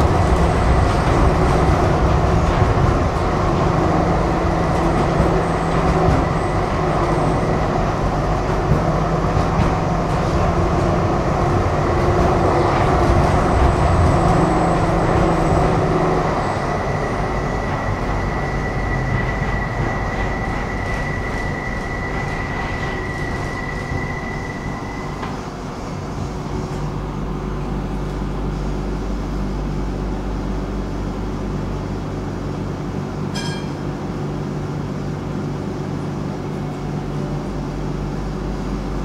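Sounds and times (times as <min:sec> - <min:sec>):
tram wheels rumbling on rails: 0:00.0 - 0:39.0.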